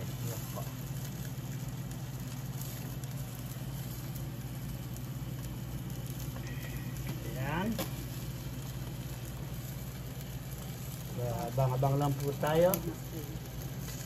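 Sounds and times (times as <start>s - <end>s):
fish sizzling on a grill: 0.0s - 14.0s
steady low hum: 0.0s - 14.0s.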